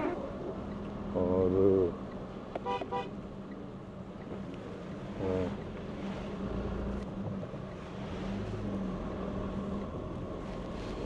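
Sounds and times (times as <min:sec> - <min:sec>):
tyre and road noise: 0:00.0 - 0:11.0.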